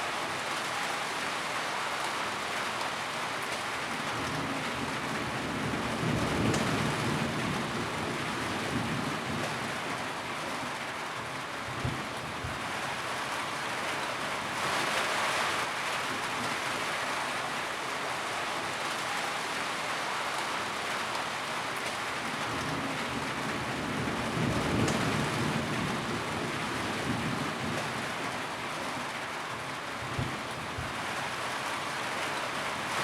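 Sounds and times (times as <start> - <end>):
rain on a tin roof: 0.0 - 33.0.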